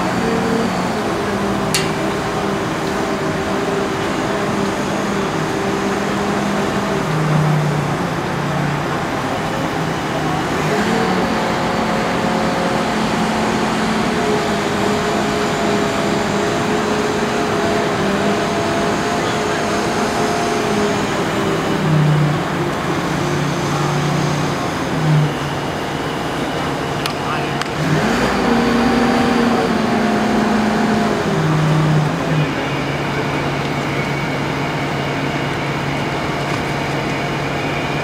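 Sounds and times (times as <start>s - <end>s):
crane engine running: 0.0s - 38.0s.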